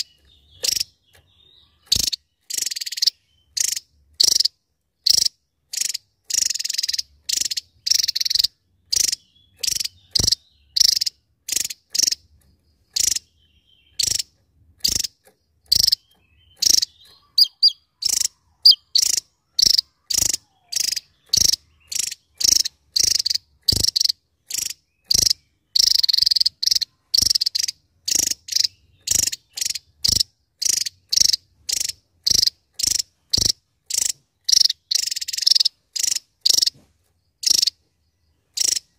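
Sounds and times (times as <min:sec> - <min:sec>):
bird singing trilled bursts: 0:00.0 - 0:38.9.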